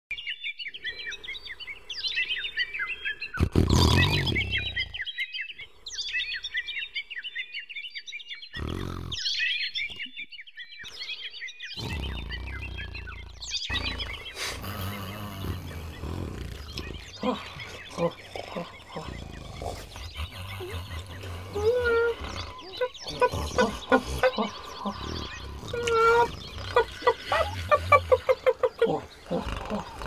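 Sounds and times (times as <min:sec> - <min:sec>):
small birds chirping: 0:00.1 - 0:30.0.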